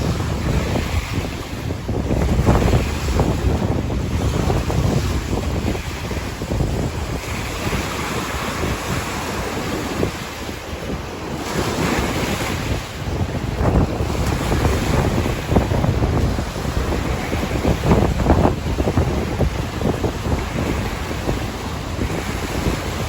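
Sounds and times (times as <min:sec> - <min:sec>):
waves washing on shoreline: 0:00.0 - 0:23.0
wind buffeting microphone: 0:00.0 - 0:23.0.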